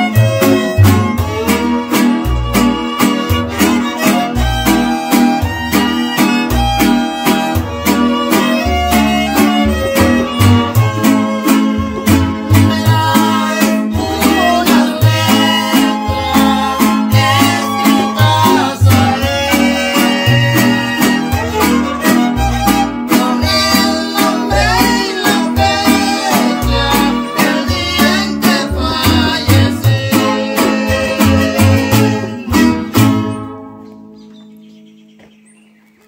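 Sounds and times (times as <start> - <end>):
string band music: 0.0 - 34.1.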